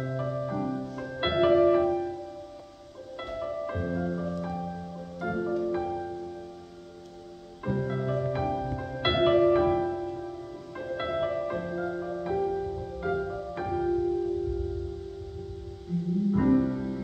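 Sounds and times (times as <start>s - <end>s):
keyboard playing piano chords: 0.0s - 17.0s.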